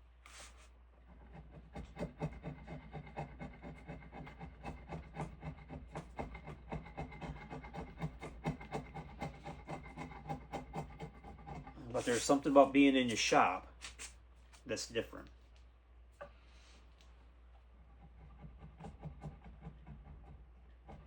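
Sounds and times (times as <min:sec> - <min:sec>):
steady low hum: 0:00.0 - 0:21.0
hand tool scraping wood: 0:00.2 - 0:14.2, 0:17.8 - 0:21.0.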